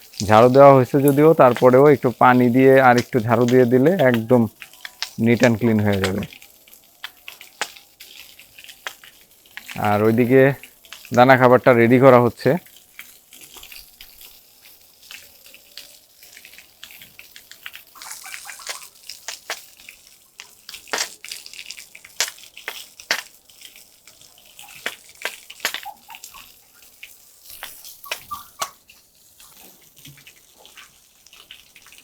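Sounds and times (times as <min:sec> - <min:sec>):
water splashing on muddy floor: 0:00.0 - 0:32.0.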